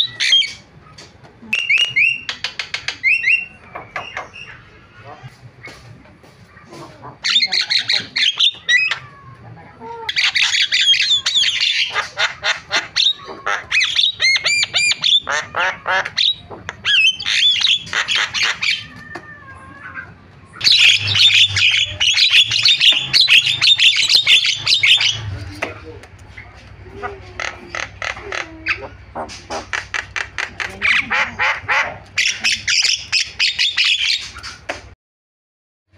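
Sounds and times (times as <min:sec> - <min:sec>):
myna chattering and squawking: 0:00.0 - 0:35.0.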